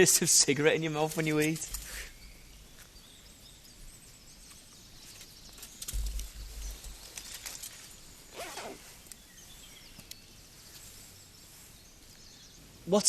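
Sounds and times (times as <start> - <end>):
rustle: 0.0 - 13.0
faint bird chirps: 1.7 - 13.0.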